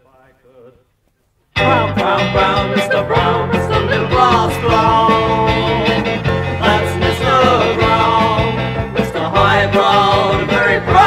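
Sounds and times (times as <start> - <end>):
rock band music: 1.6 - 11.0
sliding lead melody: 1.6 - 11.0.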